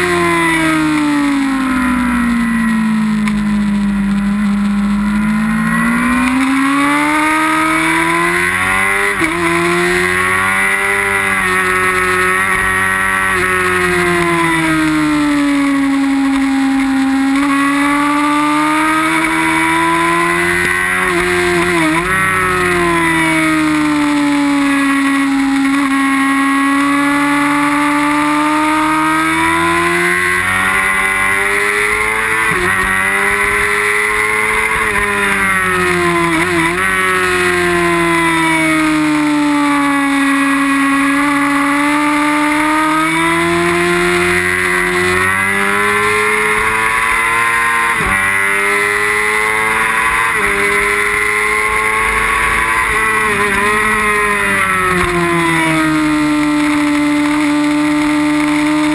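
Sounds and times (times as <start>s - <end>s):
motorcycle engine at high revs: 0.0s - 58.9s.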